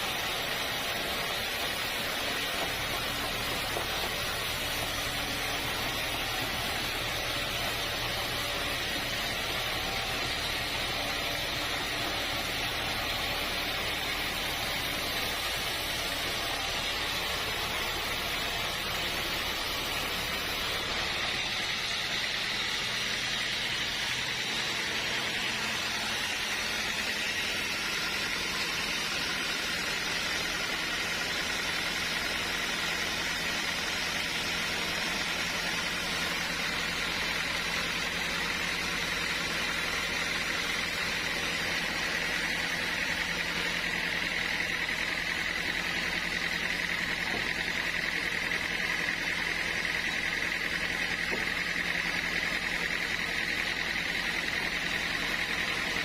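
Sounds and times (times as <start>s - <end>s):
sawmill machinery whining: 0.0s - 56.0s.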